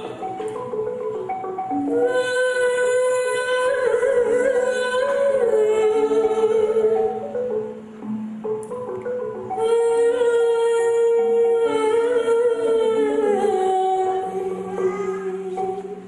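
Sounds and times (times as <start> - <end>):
gamelan metallophone notes: 0.0 - 16.0.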